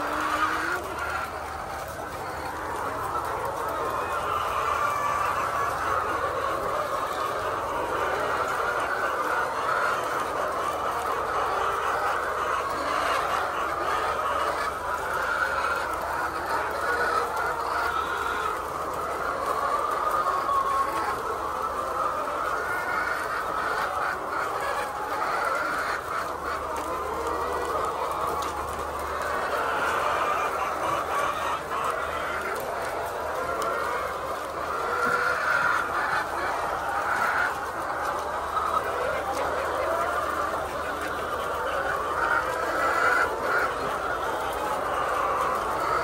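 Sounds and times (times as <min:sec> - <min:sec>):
chickens calling: 0:00.0 - 0:46.0.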